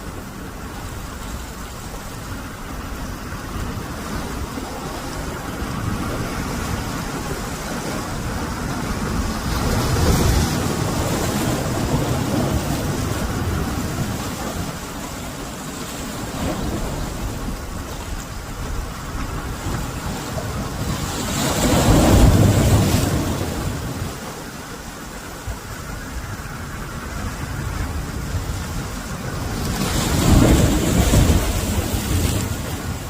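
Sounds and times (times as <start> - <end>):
sea surf on shore: 0.0 - 33.0
wind rumble on microphone: 0.0 - 33.0.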